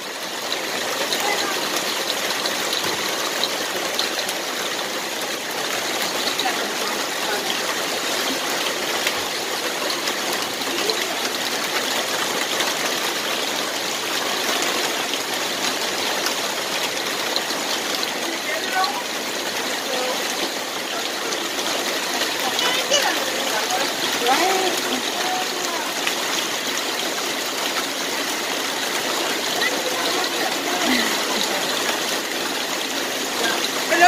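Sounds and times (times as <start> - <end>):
heavy rain pouring: 0.0 - 34.0
runoff streaming onto pavement: 0.0 - 34.0.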